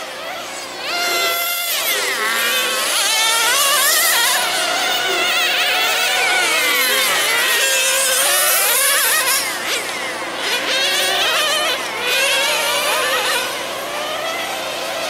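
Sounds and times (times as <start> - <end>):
small engines whining at high revs: 0.0 - 15.0.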